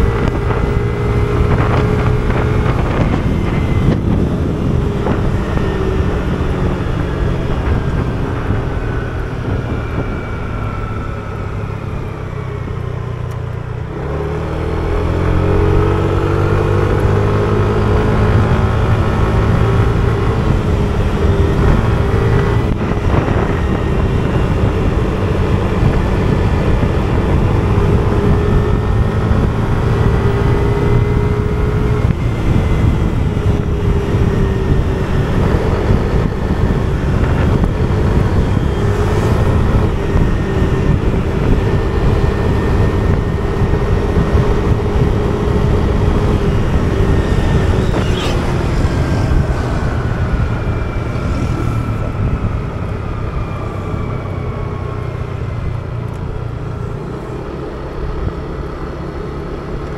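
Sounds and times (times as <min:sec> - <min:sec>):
motor scooter engine: 0:00.0 - 0:59.9.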